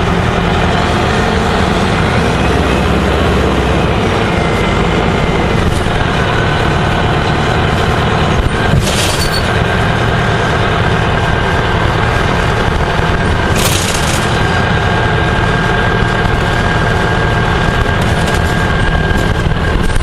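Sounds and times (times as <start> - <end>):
bus engine and road noise: 0.0 - 20.0.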